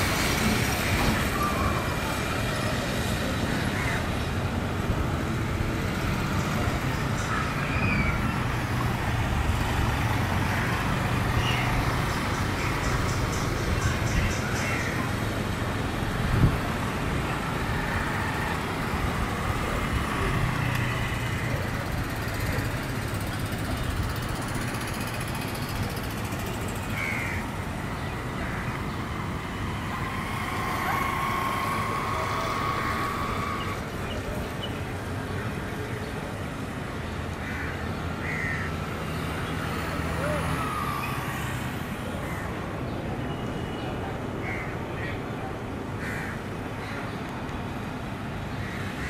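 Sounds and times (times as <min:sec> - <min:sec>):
distant engines rumbling: 0:00.0 - 0:49.0.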